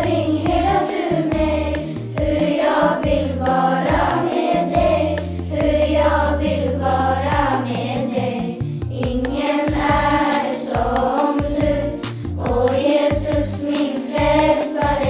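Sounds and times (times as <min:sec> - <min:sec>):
choir singing a hymn: 0:00.0 - 0:15.0
instrumental backing: 0:00.0 - 0:15.0.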